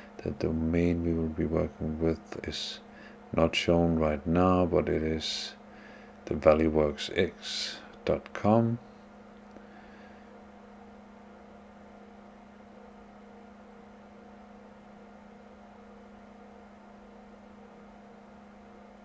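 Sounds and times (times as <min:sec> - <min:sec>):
faint low electrical hum: 0:00.0 - 0:19.0.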